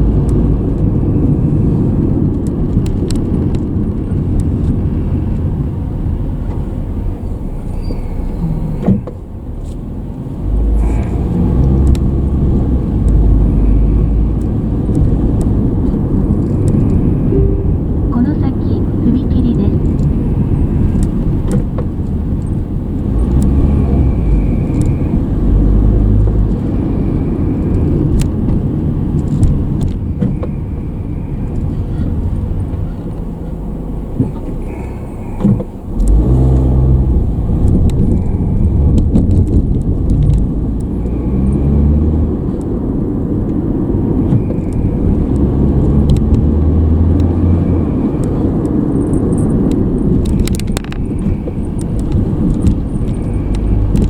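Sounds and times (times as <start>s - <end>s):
car engine accelerating: 0.0s - 54.0s
road noise inside car: 0.0s - 54.0s.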